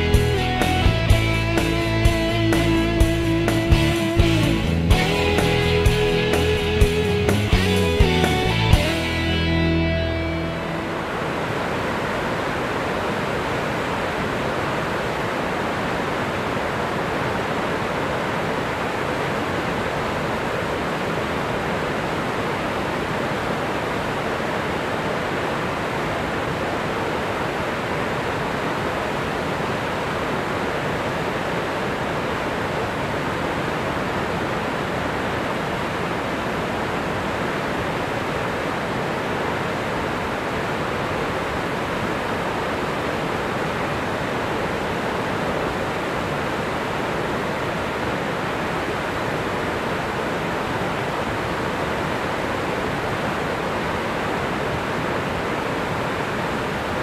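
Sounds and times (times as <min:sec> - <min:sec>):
water rushing over stone sills: 0:10.4 - 0:57.0.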